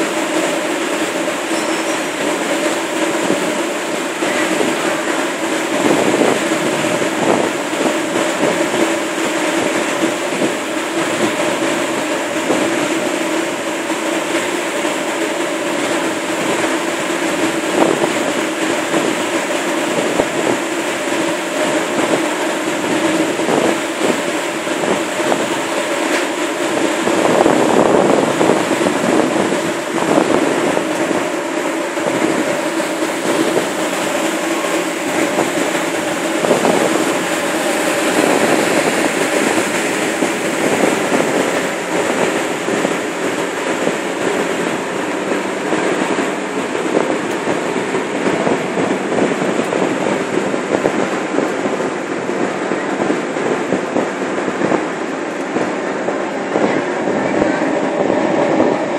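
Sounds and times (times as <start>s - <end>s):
boat engine drone: 0.0s - 58.9s
rush of churned water: 0.0s - 58.9s
wind: 0.0s - 58.9s.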